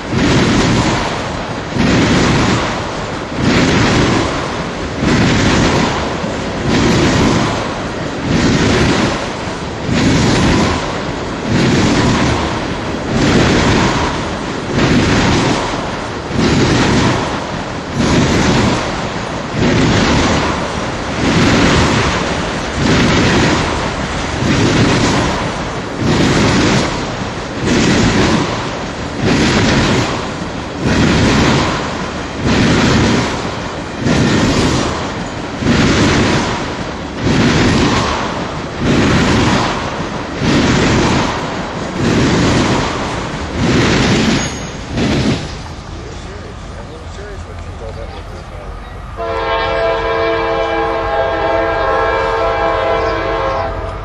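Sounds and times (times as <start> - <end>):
freight train wheels on rail: 0.0 - 54.0.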